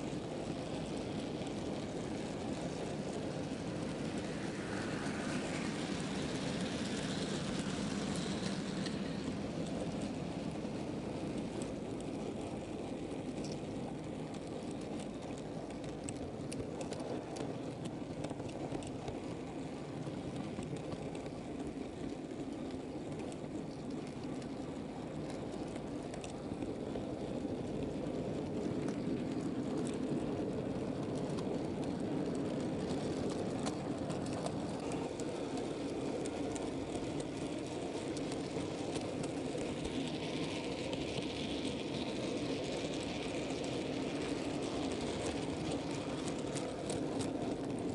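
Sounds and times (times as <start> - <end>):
model train wheels rumbling on rails: 0.0 - 47.9
faint track clicks: 6.4 - 47.9.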